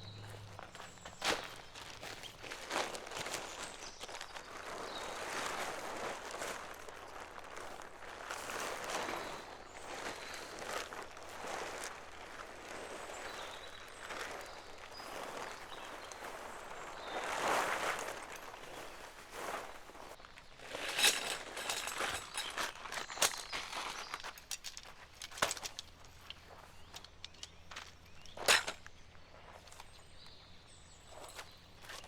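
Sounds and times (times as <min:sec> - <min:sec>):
rustling and scuffing: 0:00.0 - 0:32.0.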